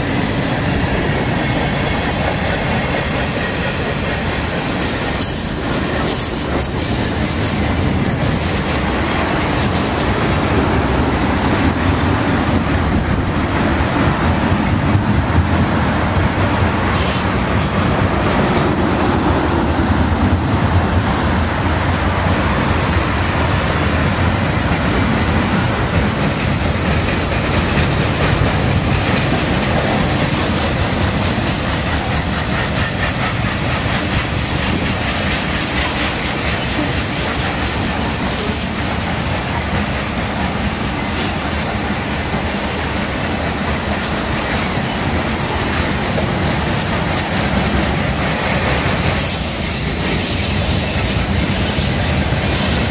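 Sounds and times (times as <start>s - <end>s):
train wheels rumbling on rail: 0.0s - 52.9s
wheels clacking over rail joints: 0.0s - 52.9s.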